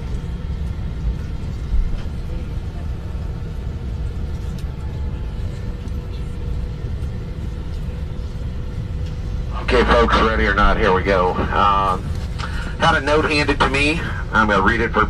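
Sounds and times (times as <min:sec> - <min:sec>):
airliner cabin rumble: 0:00.0 - 0:15.0
faint steady hum: 0:00.0 - 0:15.0.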